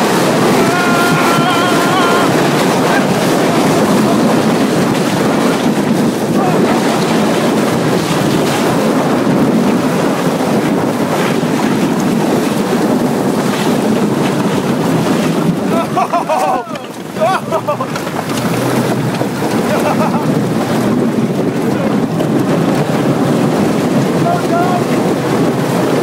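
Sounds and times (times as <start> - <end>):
water spraying past boat: 0.0 - 26.0
wind buffeting microphone: 0.0 - 26.0.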